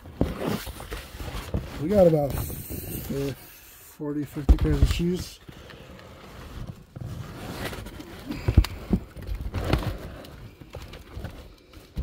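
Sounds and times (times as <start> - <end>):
hands rummaging through cardboard box: 0.0 - 3.4, 4.3 - 12.0.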